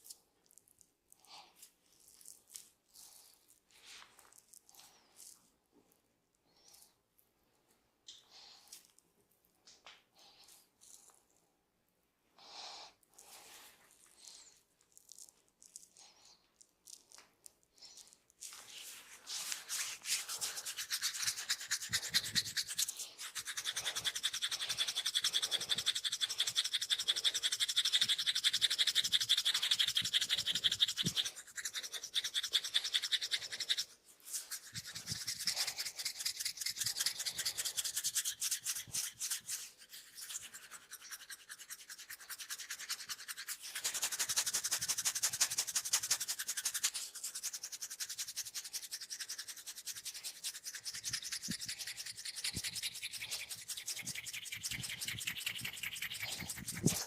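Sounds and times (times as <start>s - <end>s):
hands rubbing friction rustle: 1.5s - 5.5s, 13.2s - 57.0s.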